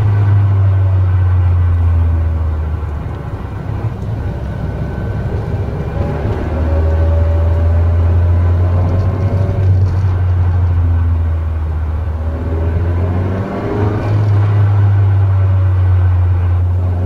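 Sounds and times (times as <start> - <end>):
car drive-train drone: 0.0 - 17.0
gearbox whine: 0.0 - 17.0.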